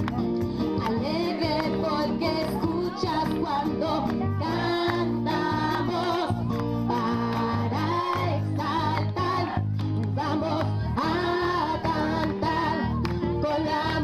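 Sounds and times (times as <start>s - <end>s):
person singing: 0.6s - 14.0s.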